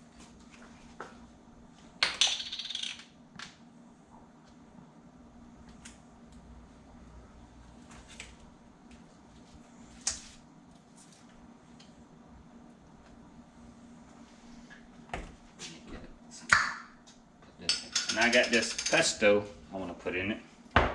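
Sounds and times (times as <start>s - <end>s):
faint steady hum: 0.0s - 20.9s.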